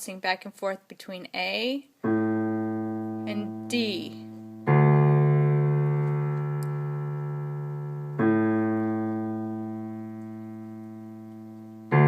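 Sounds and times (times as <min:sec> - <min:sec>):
low piano notes: 0:02.0 - 0:12.0.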